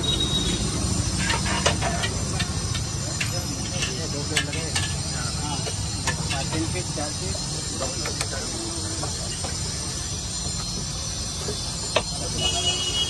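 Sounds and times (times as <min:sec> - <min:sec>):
gas burner and frying oil hiss: 0:00.0 - 0:13.0
low street rumble: 0:00.0 - 0:13.0.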